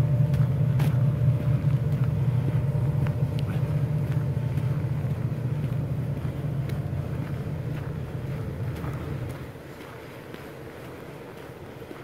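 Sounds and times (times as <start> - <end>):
diesel locomotives chugging: 0.0 - 12.0.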